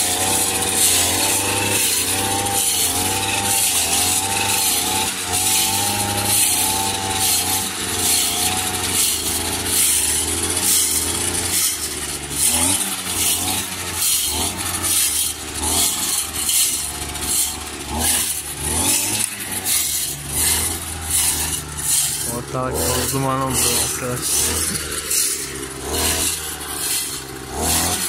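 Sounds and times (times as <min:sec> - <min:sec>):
brush cutter chopping grass: 0:00.0 - 0:28.0.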